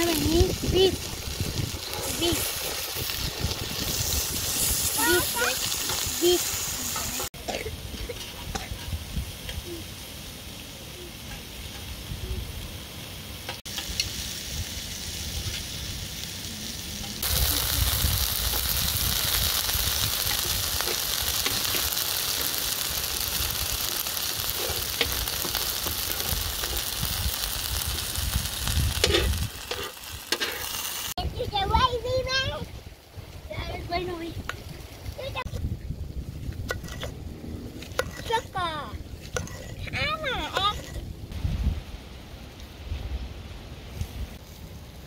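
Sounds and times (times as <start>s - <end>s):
steak sizzling: 0.0s - 32.6s, 36.4s - 41.3s.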